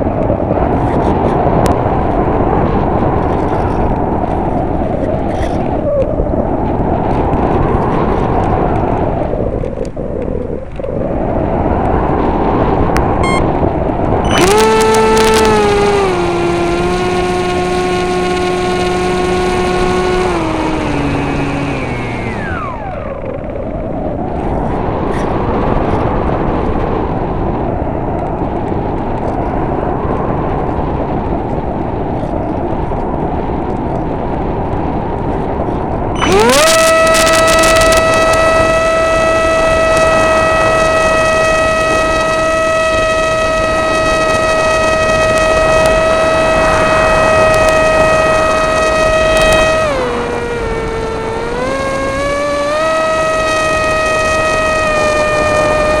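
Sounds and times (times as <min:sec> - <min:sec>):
electric motor propeller whine: 0:00.0 - 0:10.0, 0:10.7 - 0:56.0
wind rushing over microphone: 0:00.0 - 0:56.0.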